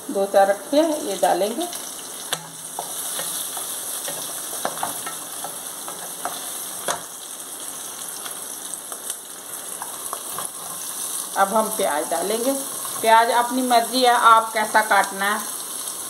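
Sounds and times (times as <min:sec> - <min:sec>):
seeds sizzling in hot fat: 0:00.0 - 0:16.0.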